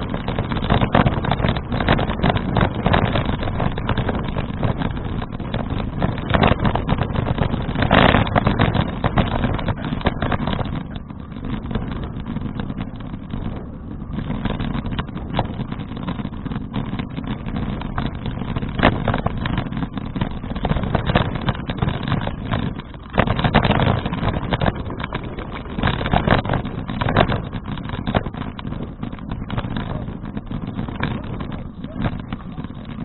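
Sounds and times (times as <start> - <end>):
small rattling knocks: 0.0 - 33.0
wind and rolling noise: 0.0 - 33.0.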